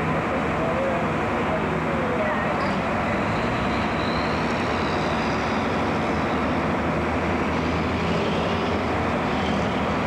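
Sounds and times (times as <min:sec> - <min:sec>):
fire truck engine running: 0:00.0 - 0:10.0.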